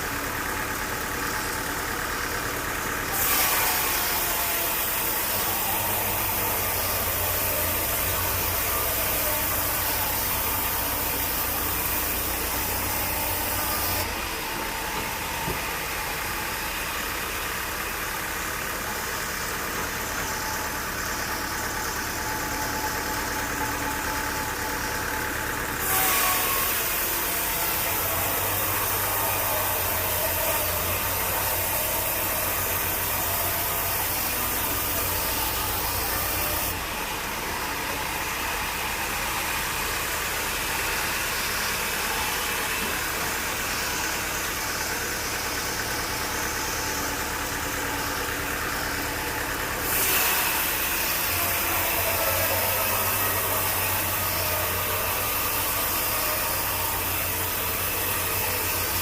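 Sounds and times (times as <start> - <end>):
engine-driven machinery running: 0.0 - 59.0.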